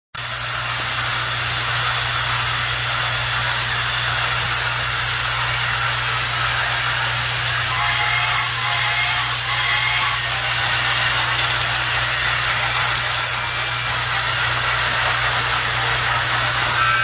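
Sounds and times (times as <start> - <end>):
toy train motor whirring: 0.2 - 17.0.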